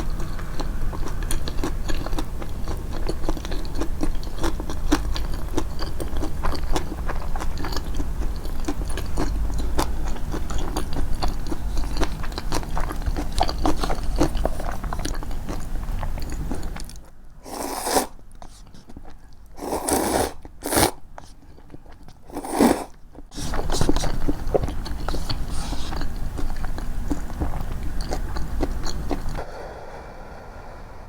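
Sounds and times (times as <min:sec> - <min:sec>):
chewing crunchy food: 0:00.0 - 0:29.4.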